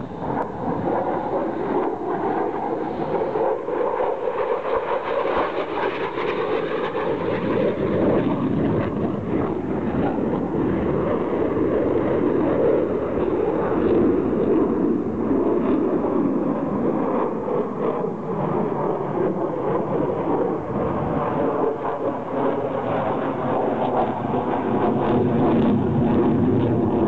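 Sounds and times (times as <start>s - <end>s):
fighter jet flying past: 0.0s - 27.0s.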